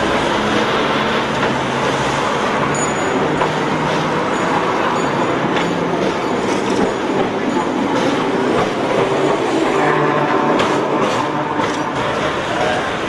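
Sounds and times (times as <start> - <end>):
road traffic noise: 0.0 - 13.0
tram motor hum: 0.0 - 13.0.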